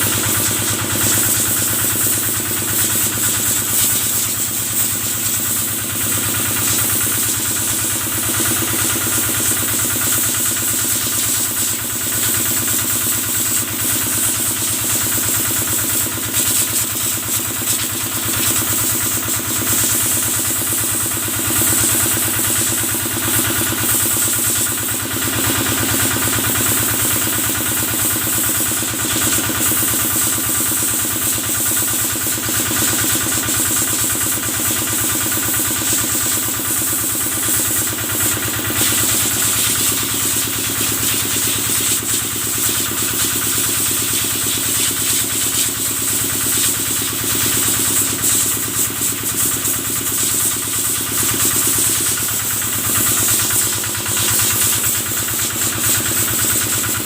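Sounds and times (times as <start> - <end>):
engine running steadily: 0.0 - 57.0
sprayer hiss: 0.0 - 57.0.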